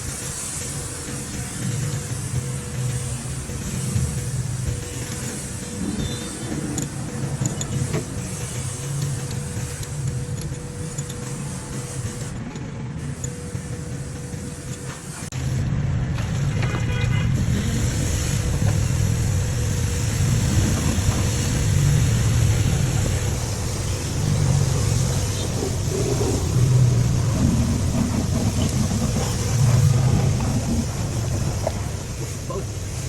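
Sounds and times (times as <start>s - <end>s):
car engine throbbing: 0.0s - 33.0s.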